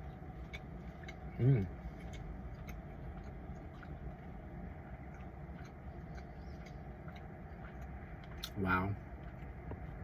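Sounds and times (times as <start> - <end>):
low rumble inside car: 0.0 - 10.0.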